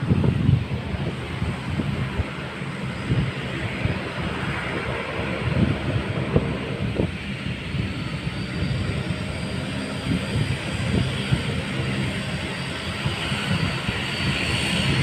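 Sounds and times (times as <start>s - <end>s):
airplane engine drone: 0.0s - 15.0s.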